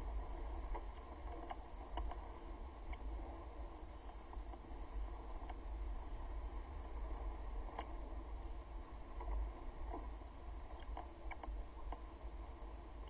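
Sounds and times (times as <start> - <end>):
rush of wind and water: 0.0 - 13.0.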